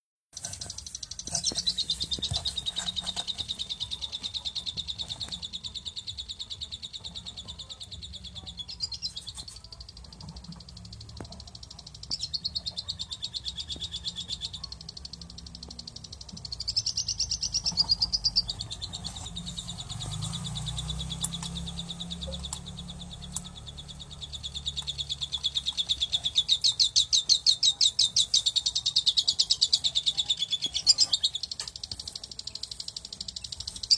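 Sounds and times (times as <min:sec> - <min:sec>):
parrots chirping: 0:00.3 - 0:33.9.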